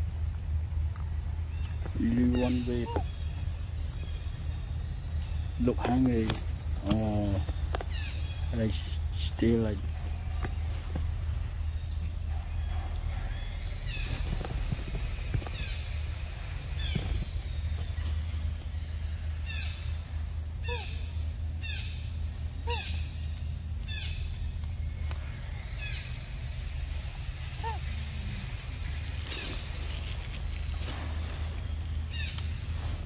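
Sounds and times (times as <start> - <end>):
steady low rumble: 2.6 - 33.0.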